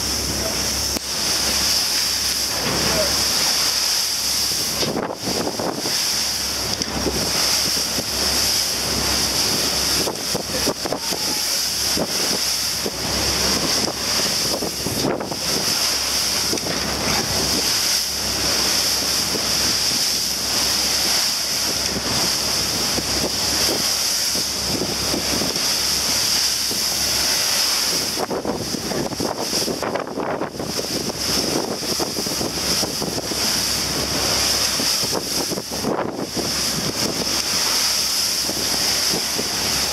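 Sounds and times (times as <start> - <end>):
rushing water and waves: 0.0 - 39.9
wind buffeting microphone: 0.0 - 39.9.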